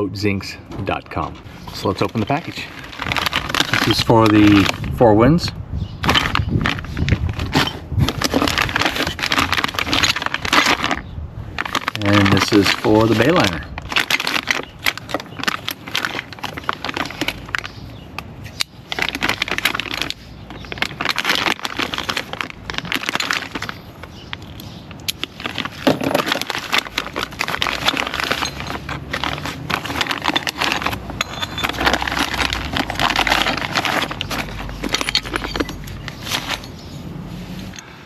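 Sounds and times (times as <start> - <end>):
packaging crinkling and rustling: 0.8 - 5.0, 6.0 - 37.8.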